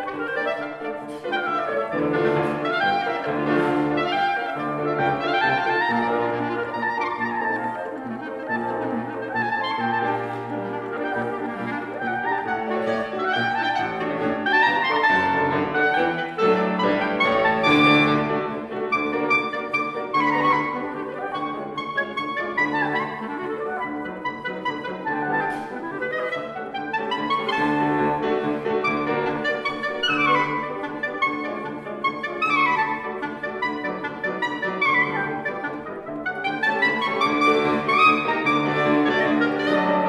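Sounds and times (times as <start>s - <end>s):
clarinet playing fast runs: 0.0s - 40.0s
grand piano accompanying: 0.0s - 40.0s.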